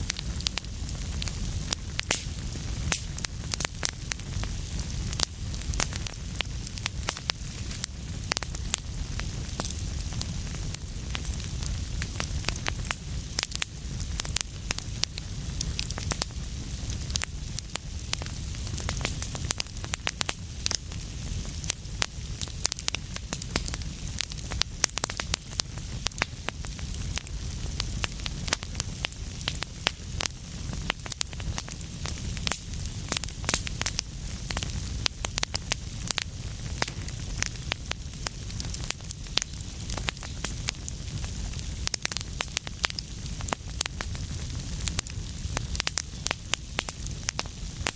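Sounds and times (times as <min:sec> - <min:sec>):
fire rumbling: 0:00.0 - 0:47.9
wood crackling and popping: 0:00.0 - 0:47.9.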